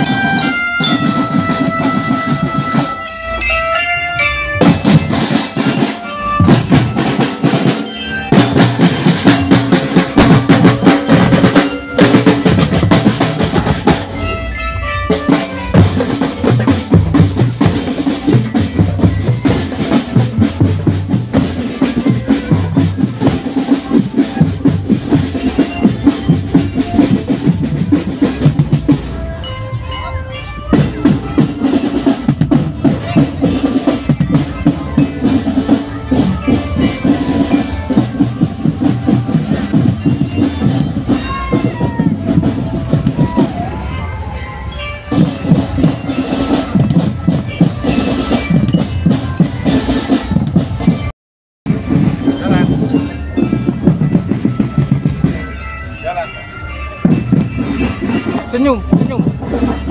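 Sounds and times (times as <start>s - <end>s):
drum-heavy music: 0.0s - 59.9s.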